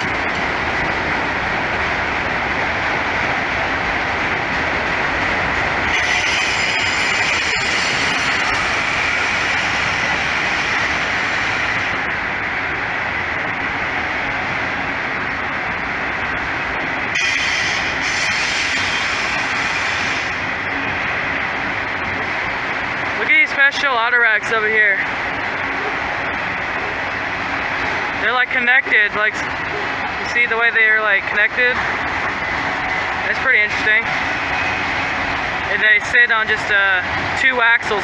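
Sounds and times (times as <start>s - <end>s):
steel wheels rolling on rail: 0.0s - 38.0s.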